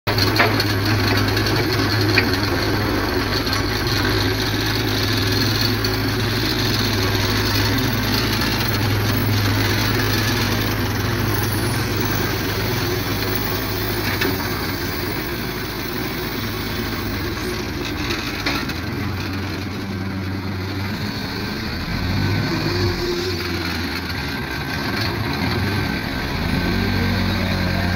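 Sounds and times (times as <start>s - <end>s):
forklift engine humming: 0.1s - 27.9s.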